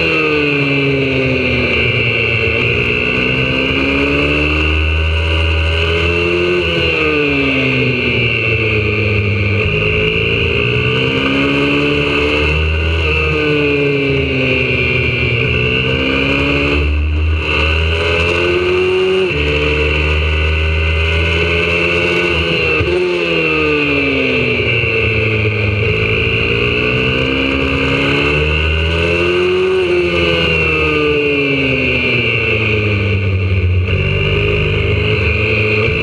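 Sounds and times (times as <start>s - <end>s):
motorbike engine revving: 0.0s - 36.0s.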